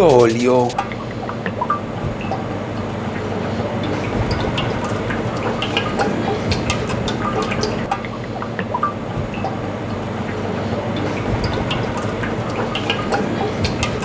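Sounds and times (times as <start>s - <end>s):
oil trickling into metal pot: 0.8s - 14.0s.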